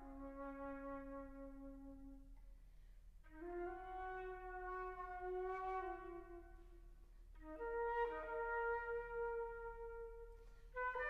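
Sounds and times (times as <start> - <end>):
solo flute playing slow notes: 0.0 - 11.0.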